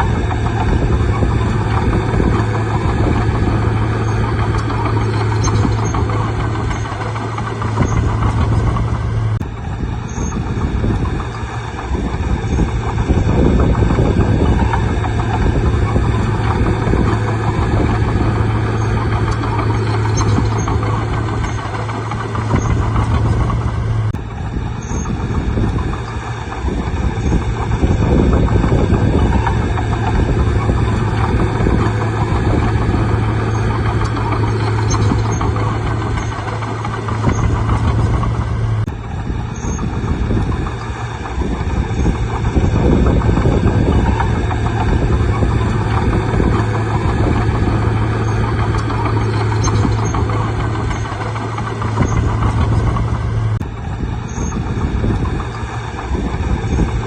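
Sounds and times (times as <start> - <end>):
bulldozer engine humming: 0.0 - 57.0.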